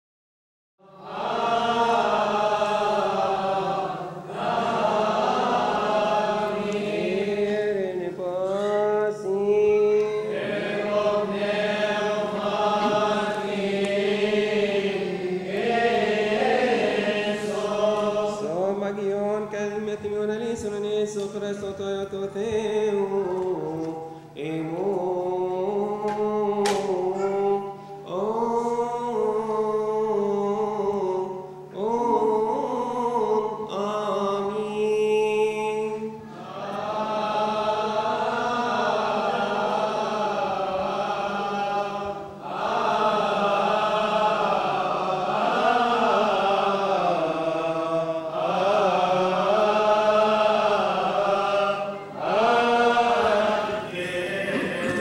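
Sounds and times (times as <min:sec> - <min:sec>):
unaccompanied liturgical chant: 0:00.8 - 0:55.0.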